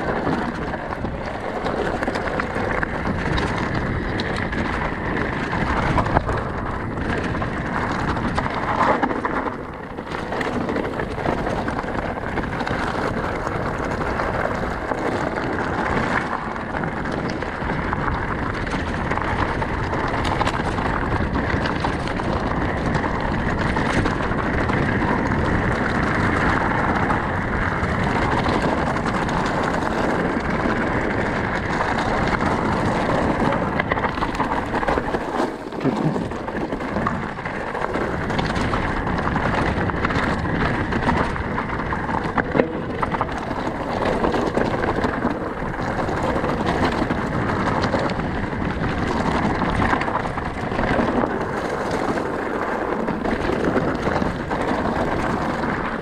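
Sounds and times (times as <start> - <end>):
bike rattle: 0.0 - 56.0
bike tyres crunching on gravel: 0.0 - 56.0
wind on microphone: 0.0 - 56.0.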